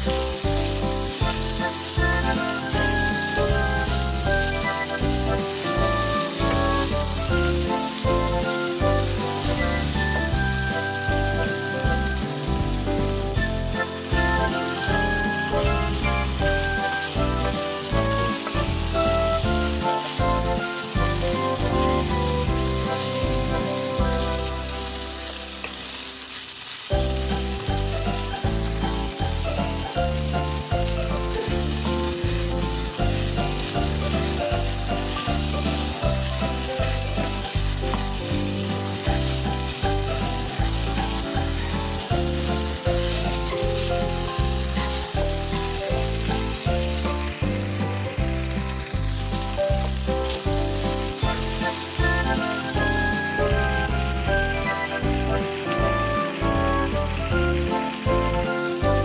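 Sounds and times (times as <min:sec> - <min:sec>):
meat sizzling in a pan: 0:00.0 - 0:59.0
wooden spatula turning meat: 0:00.0 - 0:59.0.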